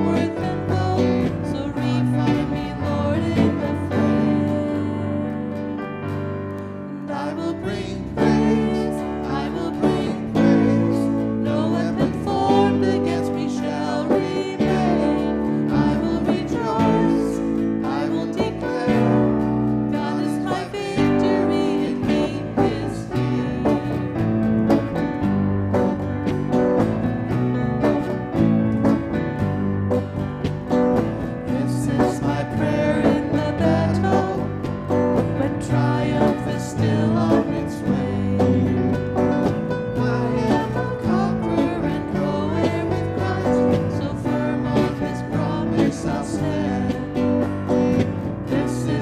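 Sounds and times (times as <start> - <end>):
person singing: 0.0 - 6.0, 6.6 - 24.2, 31.4 - 49.0
acoustic guitar: 0.0 - 49.0
bass guitar: 0.0 - 49.0
digital piano: 0.0 - 49.0
electric guitar: 0.0 - 49.0
worship band playing: 0.0 - 49.0.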